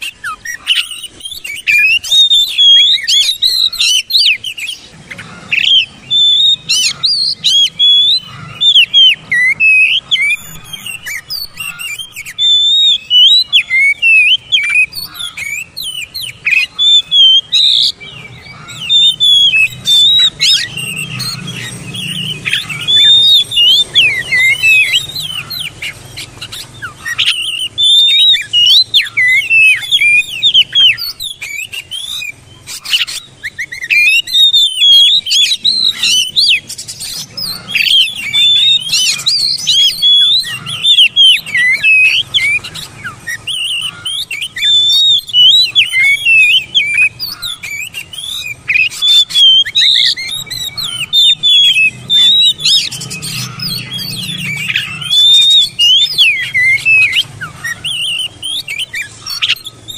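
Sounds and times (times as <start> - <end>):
bird singing whistles and chatters: 0.0 - 59.9.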